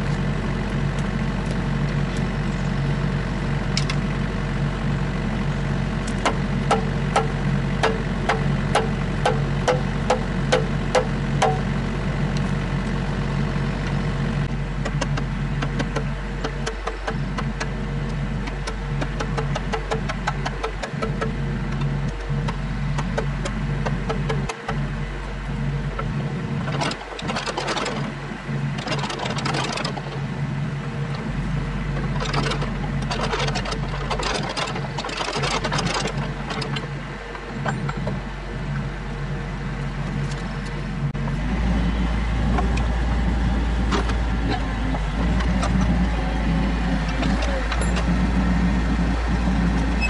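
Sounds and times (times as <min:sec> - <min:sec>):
diesel excavator engine running: 0:00.0 - 0:50.0.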